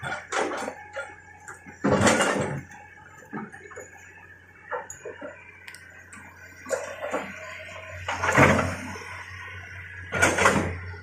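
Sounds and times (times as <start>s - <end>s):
excavator engine hum: 0.0s - 11.0s.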